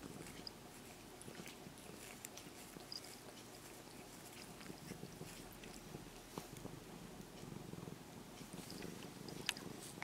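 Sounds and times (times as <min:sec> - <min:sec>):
cat purring: 0:00.0 - 0:10.0.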